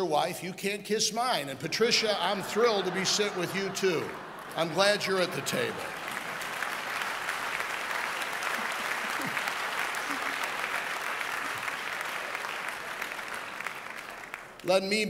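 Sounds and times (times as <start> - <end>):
audience applauding: 1.7 - 14.8.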